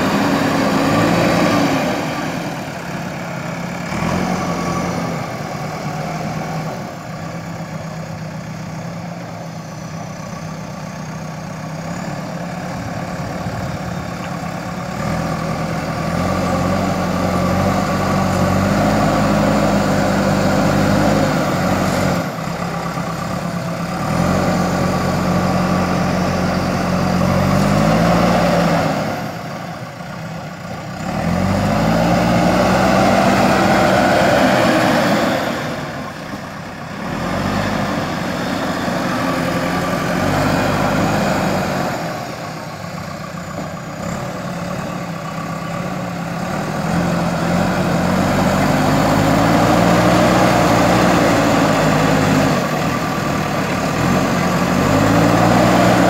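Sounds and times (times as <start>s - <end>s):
diesel engine revving under load: 0.0s - 56.0s
loader bucket pushing soil: 0.0s - 56.0s.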